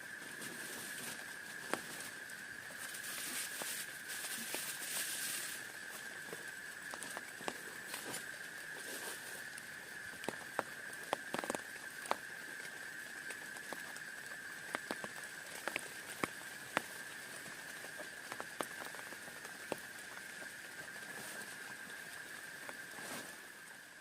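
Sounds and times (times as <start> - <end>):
rain hiss: 0.0 - 24.0.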